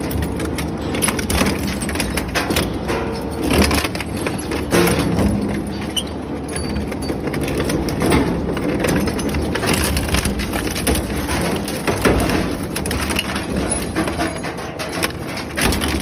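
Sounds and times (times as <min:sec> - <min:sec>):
industrial shredder crushing material: 0:00.0 - 0:16.0.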